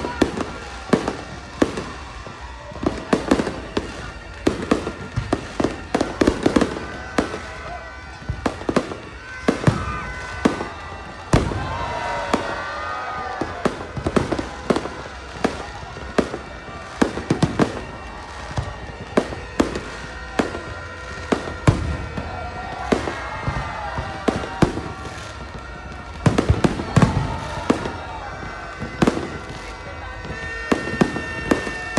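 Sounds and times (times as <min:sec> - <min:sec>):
fireworks bangs and pops: 0:00.0 - 0:31.9.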